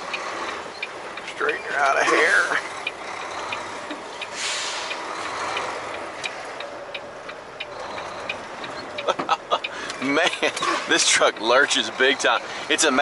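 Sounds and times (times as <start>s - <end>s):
diesel truck engine rumble: 0.0s - 13.0s.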